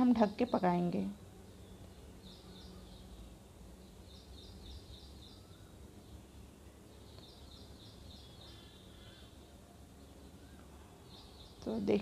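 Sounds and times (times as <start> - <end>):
bird chirping: 0.0 - 12.0
low steady hum: 0.0 - 12.0.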